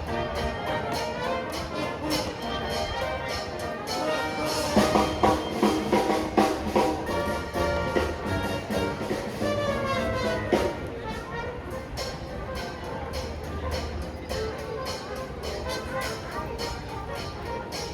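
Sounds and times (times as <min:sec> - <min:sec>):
brass and drums music: 0:00.0 - 0:17.9.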